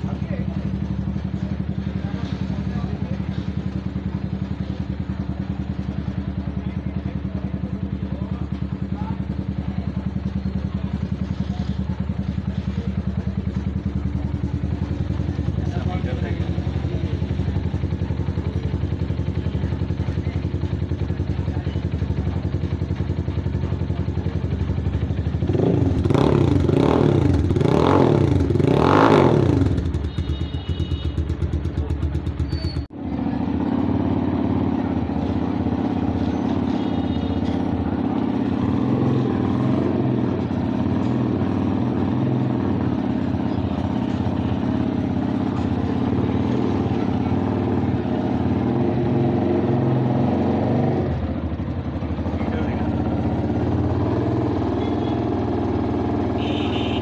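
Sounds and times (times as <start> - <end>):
cruiser motorcycle engine idling: 0.0 - 57.0
motorcycle engine idling and revving: 0.0 - 57.0.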